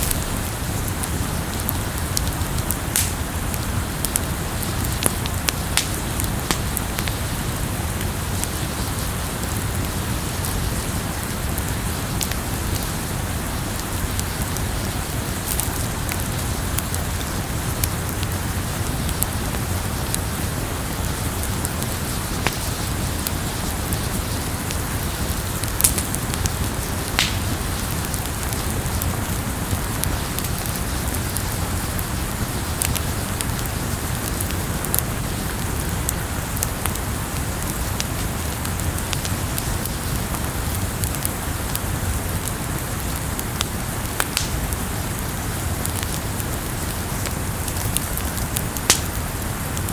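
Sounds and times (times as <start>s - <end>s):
campfire burning: 0.0s - 49.9s
fire pops and snaps: 0.0s - 49.9s.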